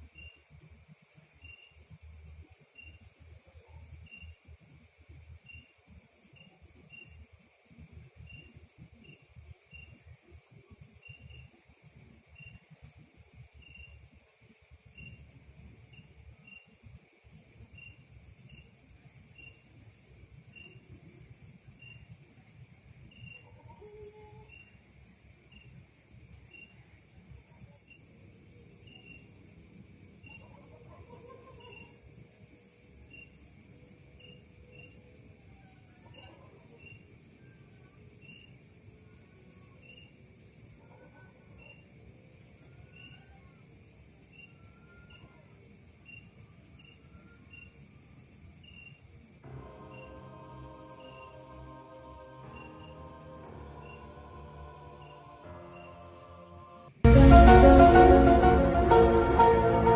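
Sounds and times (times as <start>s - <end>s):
insect trills: 0.0s - 57.0s
crickets chirping: 0.0s - 57.1s
steady high insect drone: 0.0s - 57.1s.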